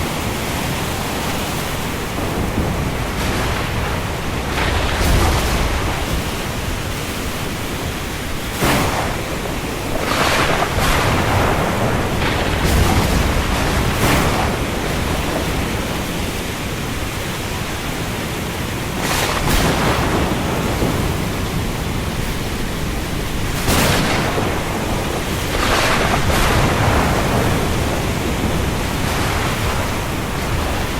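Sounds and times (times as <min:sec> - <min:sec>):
heavy rain over sea: 0:00.0 - 0:30.9
waves rushing: 0:00.0 - 0:30.9.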